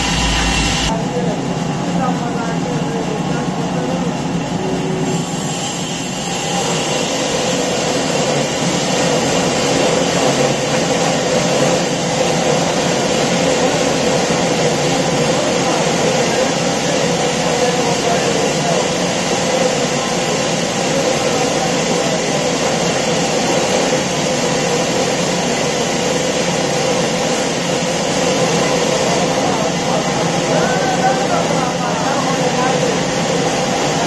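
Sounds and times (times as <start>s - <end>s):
band sawmill mechanical whir: 0.0s - 34.0s.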